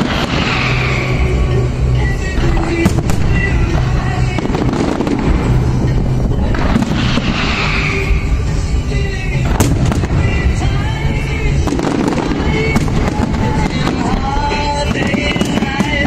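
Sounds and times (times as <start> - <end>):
crackling shower of sparks: 0.0 - 16.0
fireworks bangs: 0.0 - 16.0
music: 0.0 - 16.0.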